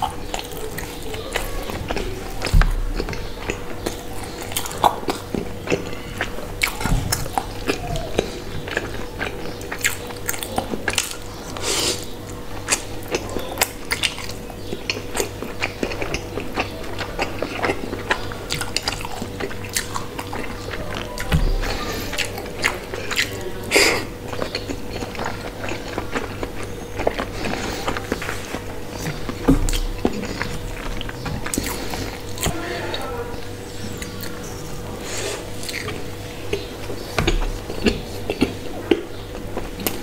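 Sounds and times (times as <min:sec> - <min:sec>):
wet chewing: 0:00.0 - 0:40.0.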